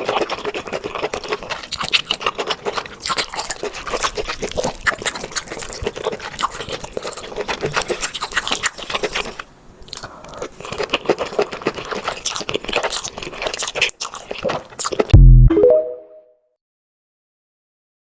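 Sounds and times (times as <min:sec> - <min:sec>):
chewing and crunching seafood: 0:00.0 - 0:15.2.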